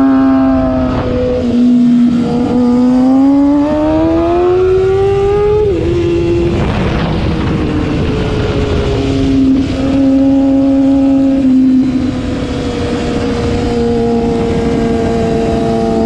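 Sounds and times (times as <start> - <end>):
motorcycle engine revving: 0.0 - 16.0
wind rush on microphone: 0.0 - 16.0.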